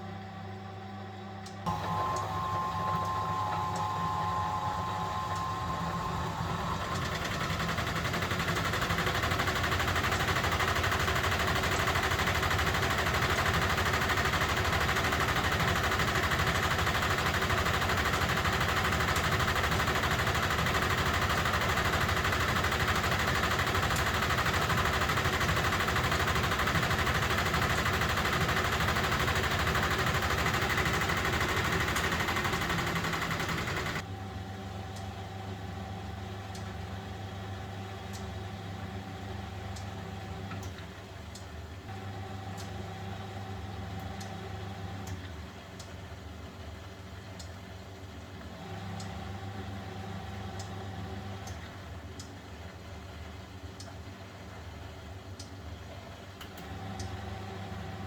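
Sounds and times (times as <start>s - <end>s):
washing machine running: 0.0s - 45.6s, 48.4s - 52.2s, 55.9s - 58.0s.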